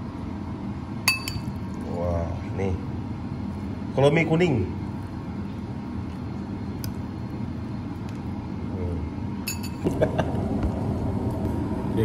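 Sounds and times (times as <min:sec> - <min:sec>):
kitchen ventilation hum: 0:00.0 - 0:12.0.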